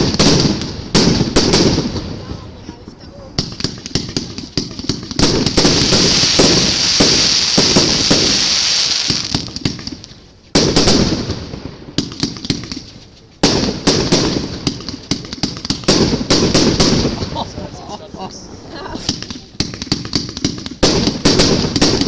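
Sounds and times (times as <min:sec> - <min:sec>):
fireworks bangs and crackle: 0:00.0 - 0:22.0.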